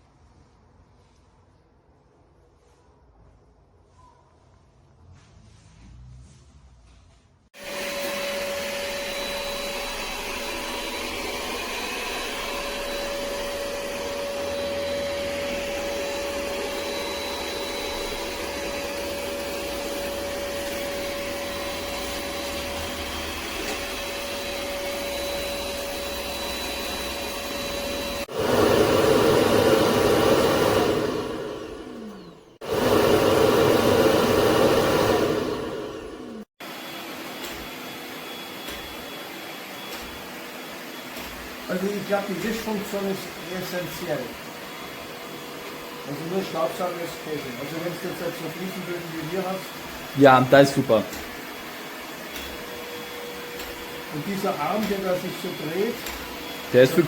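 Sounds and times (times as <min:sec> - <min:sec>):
robot vacuum whining: 0:07.6 - 0:57.0.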